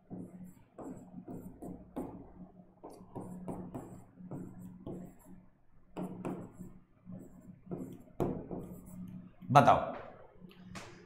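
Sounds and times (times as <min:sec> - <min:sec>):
pen scratching on board: 0:00.0 - 0:09.2
low electrical hum: 0:00.0 - 0:11.0.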